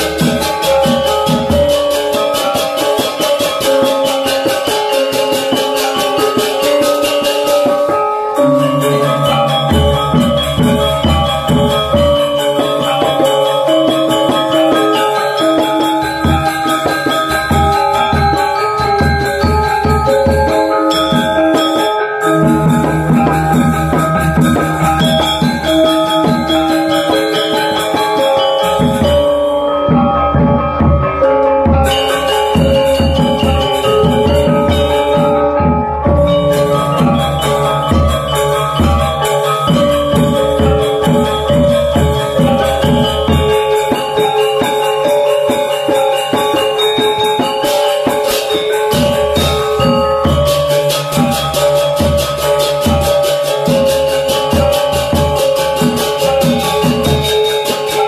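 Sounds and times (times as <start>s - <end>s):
gamelan ensemble playing: 0.0s - 58.0s
metallophones and kettle gongs ringing: 0.0s - 58.0s.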